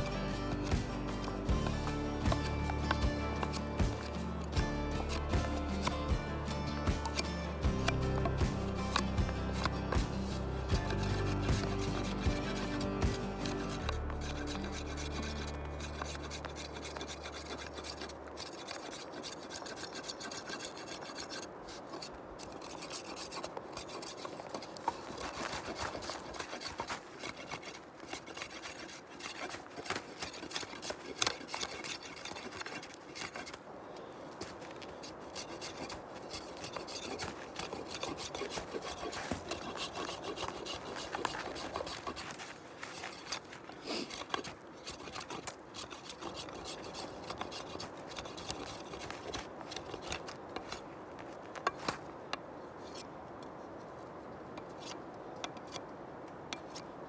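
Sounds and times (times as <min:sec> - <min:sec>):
knife scraping wood: 0:00.0 - 0:57.0.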